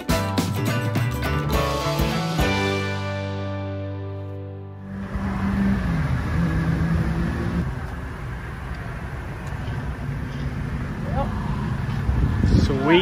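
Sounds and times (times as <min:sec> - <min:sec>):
car engine and road noise: 0:00.0 - 0:13.0
street traffic: 0:00.0 - 0:13.0.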